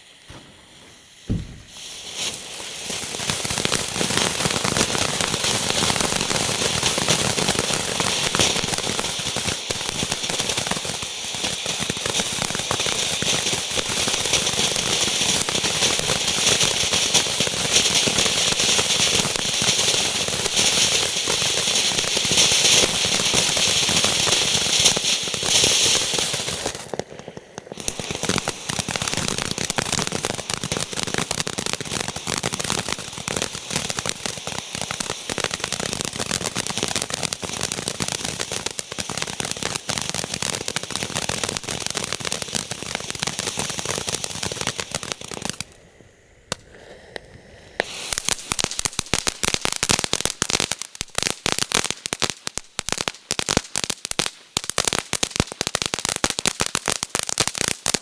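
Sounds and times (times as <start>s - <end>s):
firework crackling and hissing: 0.0s - 58.0s.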